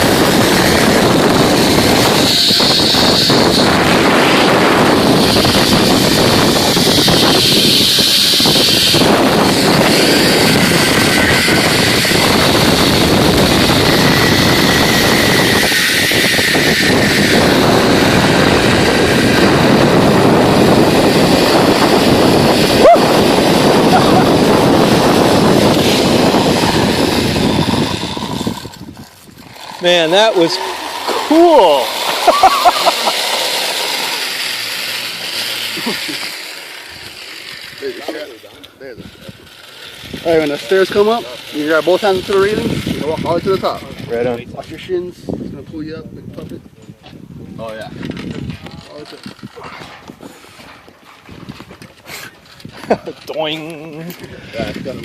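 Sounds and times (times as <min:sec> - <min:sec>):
wind rushing on microphone: 0:00.0 - 0:32.7, 0:36.9 - 0:55.0
pulley wheels whining: 0:00.0 - 0:45.1, 0:47.6 - 0:55.0.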